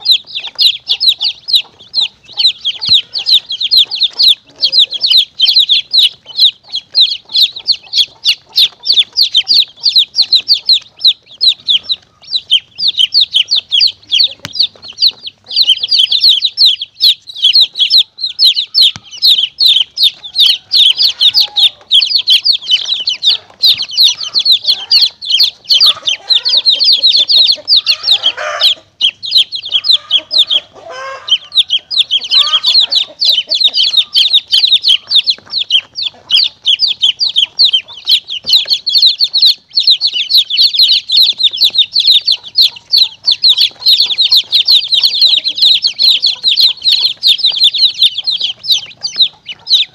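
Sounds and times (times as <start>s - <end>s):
chicks peeping: 0.0s - 49.9s
hen clucking: 0.0s - 49.9s.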